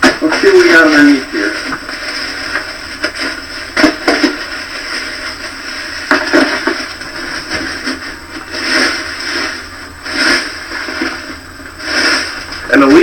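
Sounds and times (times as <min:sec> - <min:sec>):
dry leaves rustling and crunching: 0:00.1 - 0:13.0.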